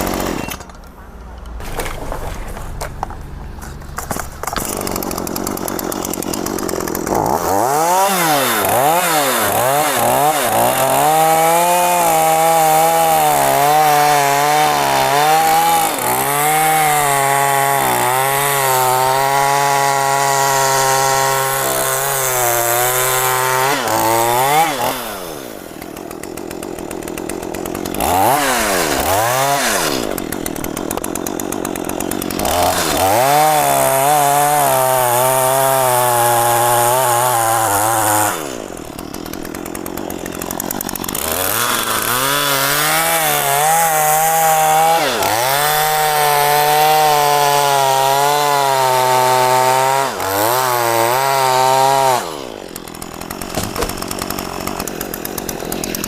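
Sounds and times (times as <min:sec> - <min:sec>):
chainsaw cutting wood: 0:00.0 - 0:00.9, 0:01.6 - 0:56.0.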